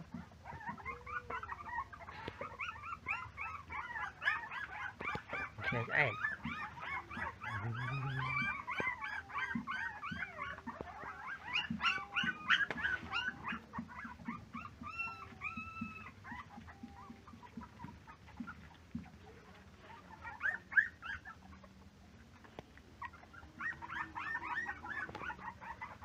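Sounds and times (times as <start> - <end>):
puppies whining and yipping: 0.0 - 26.0.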